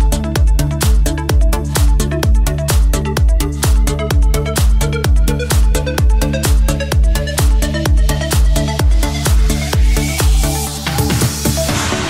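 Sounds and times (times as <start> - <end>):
electronic dance music: 0.0 - 12.0
thumping kick drum: 0.0 - 12.0.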